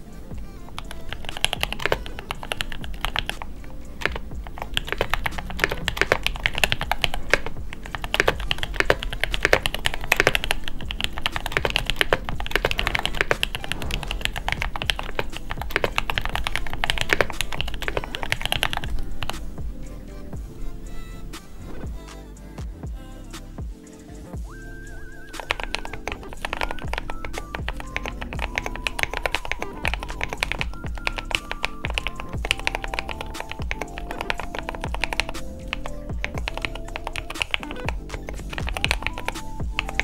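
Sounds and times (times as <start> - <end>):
fast typing on mechanical keyboard: 0.7 - 19.4, 25.4 - 40.0.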